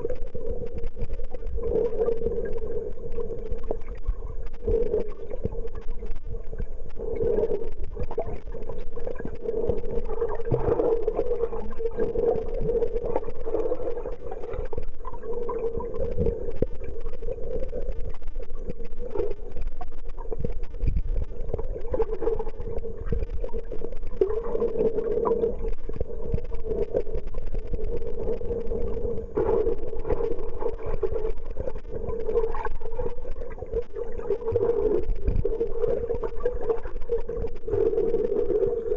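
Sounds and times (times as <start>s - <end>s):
muffled underwater rumble: 0.0s - 38.9s
steady hum: 0.0s - 38.9s.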